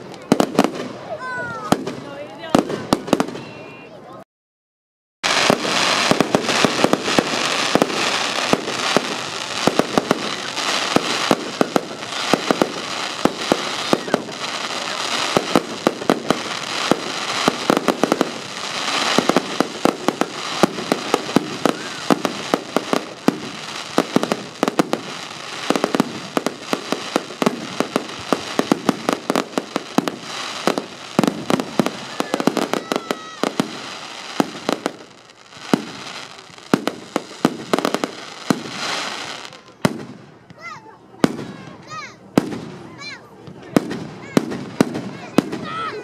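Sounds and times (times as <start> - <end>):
fireworks bangs and crackles: 0.0 - 4.0, 5.2 - 46.0.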